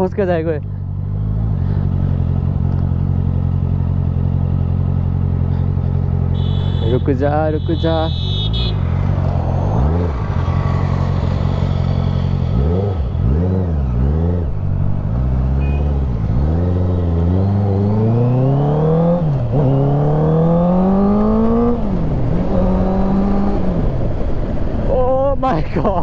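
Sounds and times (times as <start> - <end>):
motorcycle engine revving: 0.6 - 24.7.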